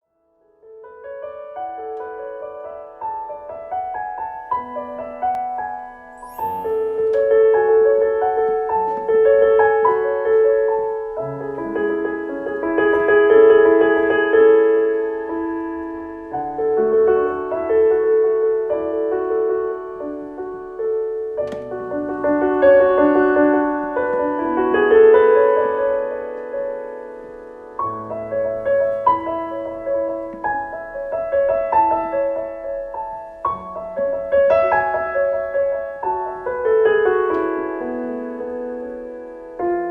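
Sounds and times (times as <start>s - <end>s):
classical piano piece: 0.0s - 39.9s.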